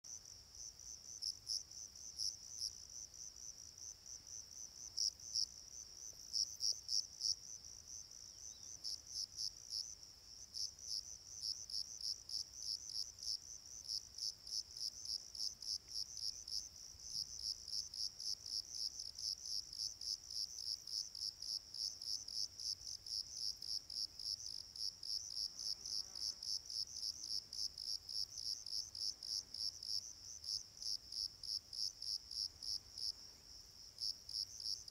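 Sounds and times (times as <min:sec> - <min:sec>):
crickets chirping: 0:00.1 - 0:34.9.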